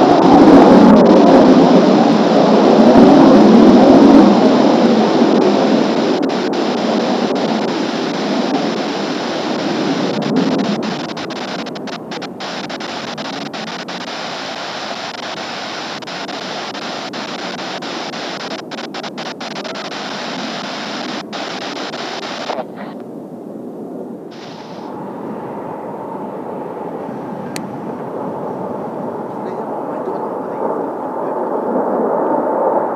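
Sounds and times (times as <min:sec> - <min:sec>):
distant jets rushing: 0:00.0 - 0:32.9
jet roar: 0:00.0 - 0:32.9.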